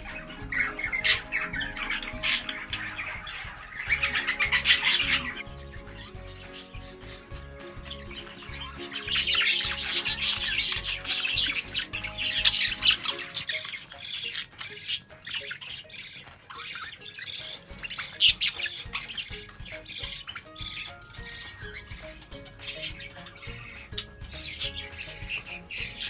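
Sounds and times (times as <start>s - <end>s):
background music: 0.0s - 26.0s
budgerigars chattering: 0.0s - 26.0s.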